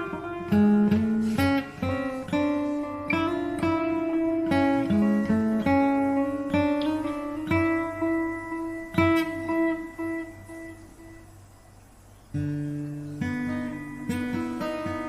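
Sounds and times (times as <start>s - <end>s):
acoustic guitar strumming and picking: 0.0s - 15.0s.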